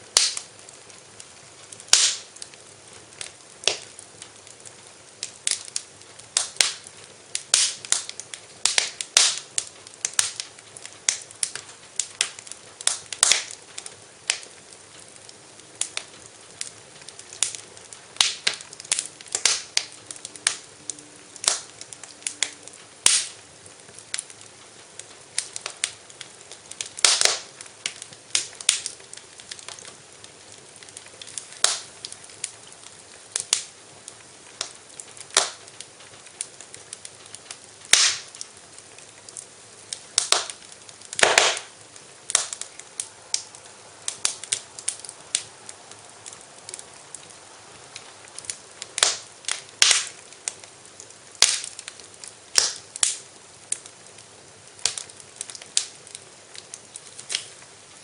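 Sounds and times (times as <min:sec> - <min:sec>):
faint steady hiss: 0:00.0 - 0:58.0
wood fire crackling and popping: 0:00.0 - 0:58.0.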